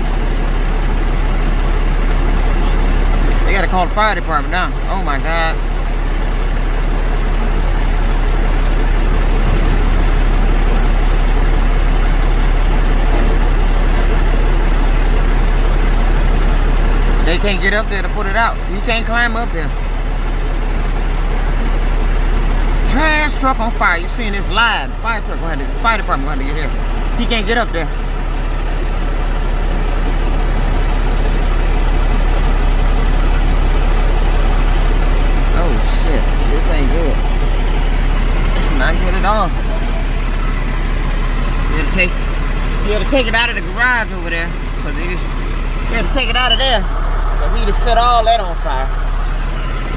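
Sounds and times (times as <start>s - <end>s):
truck diesel engine idling: 0.0s - 49.9s.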